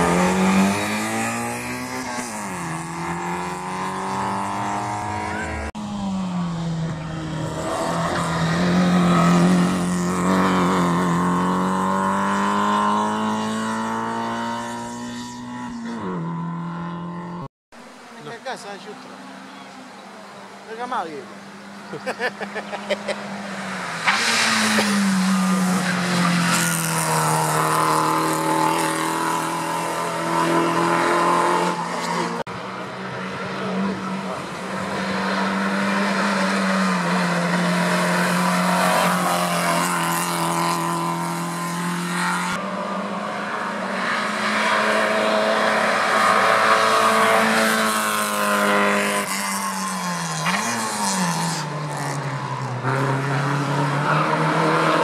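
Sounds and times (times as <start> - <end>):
race car engine at high revs: 0.0 - 17.5, 21.4 - 55.0.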